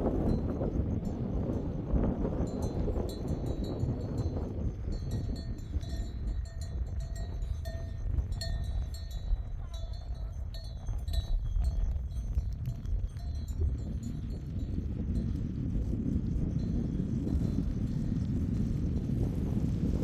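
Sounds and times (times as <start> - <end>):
sheep bells clinking: 0.0 - 18.2
wind rumbling on microphone: 0.0 - 20.0.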